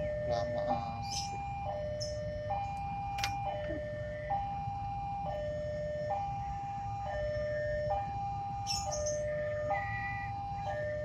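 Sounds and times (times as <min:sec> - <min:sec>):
level crossing two-tone alarm: 0:00.0 - 0:11.0.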